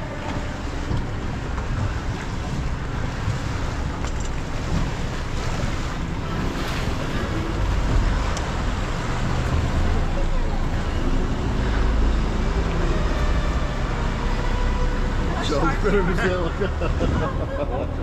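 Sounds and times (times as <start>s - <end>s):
boat motor: 0.0s - 18.0s
water splashing along hull: 0.0s - 18.0s.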